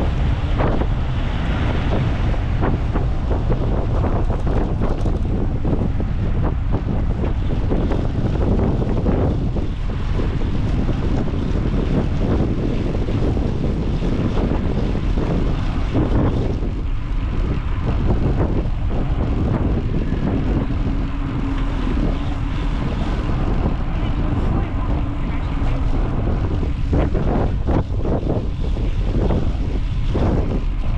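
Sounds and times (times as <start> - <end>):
faint steady hum: 0.0 - 30.9
wind buffeting microphone: 0.0 - 30.9.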